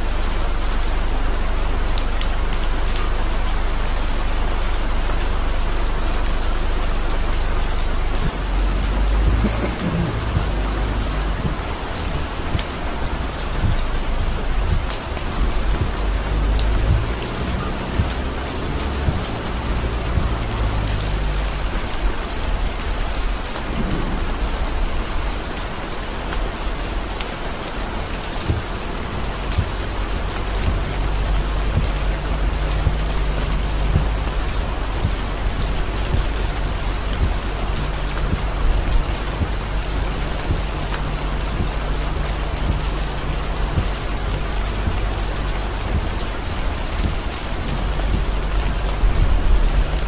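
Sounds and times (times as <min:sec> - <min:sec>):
heavy rain on car roof: 0:00.0 - 0:50.0
low driving rumble: 0:00.0 - 0:50.0.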